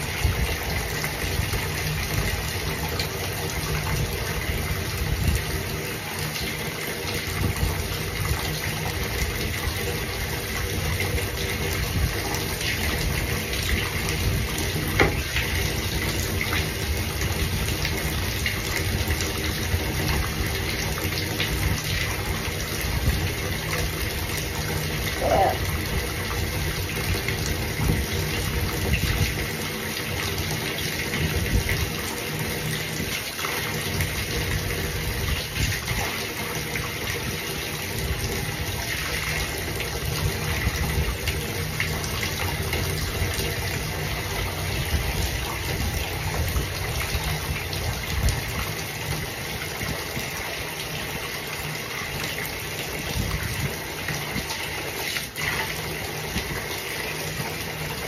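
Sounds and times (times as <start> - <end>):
water running into a bathtub: 0.0 - 58.0.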